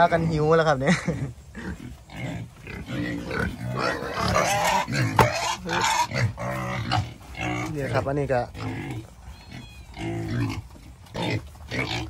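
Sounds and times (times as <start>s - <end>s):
pigs grunting and squealing: 0.0s - 12.0s.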